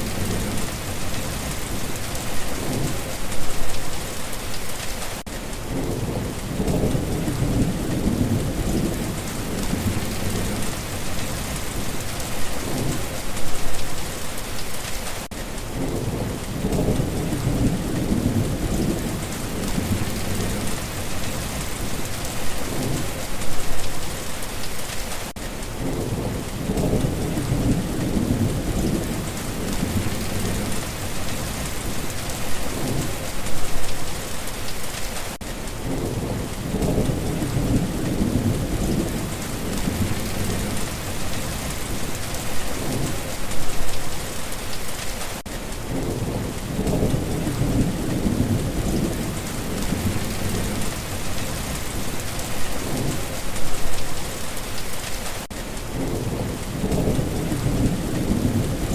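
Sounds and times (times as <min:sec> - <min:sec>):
thunder rumbling: 0:00.0 - 0:04.3, 0:05.6 - 0:14.8, 0:15.7 - 0:24.1, 0:25.8 - 0:34.5, 0:35.8 - 0:44.2, 0:45.8 - 0:55.0, 0:55.8 - 0:58.9
steady rain: 0:00.0 - 0:58.9.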